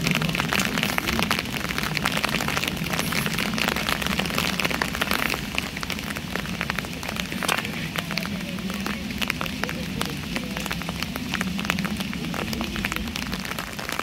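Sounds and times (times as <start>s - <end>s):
crisp raindrop hits: 0.0s - 14.0s
steady rain hiss: 0.0s - 14.0s.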